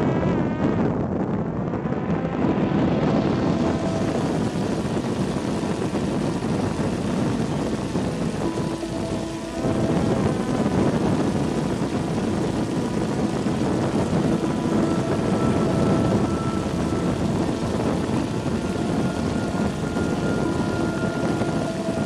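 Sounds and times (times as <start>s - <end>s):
propeller aircraft rush: 1.0s - 22.0s
faint motor tones: 2.3s - 22.0s.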